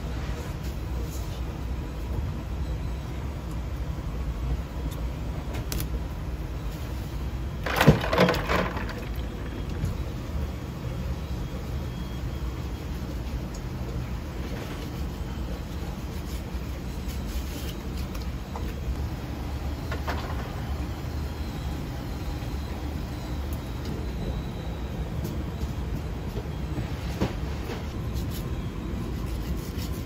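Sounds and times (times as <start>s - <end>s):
kitchen machinery hum: 0.0s - 30.0s.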